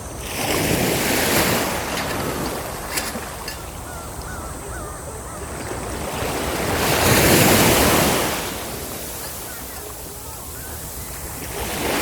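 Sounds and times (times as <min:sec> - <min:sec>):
surf washing on beach: 0:00.0 - 0:12.0.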